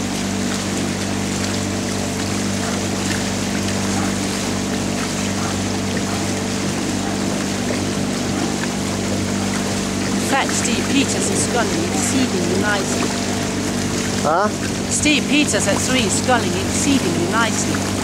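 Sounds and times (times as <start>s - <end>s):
outboard motor humming: 0.0s - 18.0s
rushing water: 0.0s - 18.0s.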